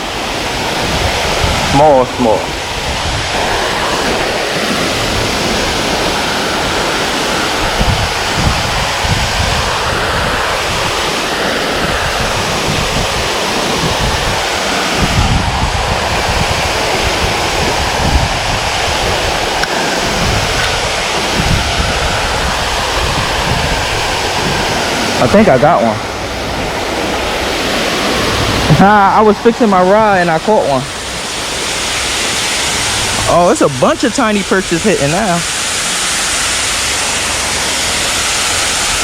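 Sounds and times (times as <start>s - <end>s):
waterfall rushing: 0.0s - 39.0s
wind gusting on microphone: 0.0s - 39.0s.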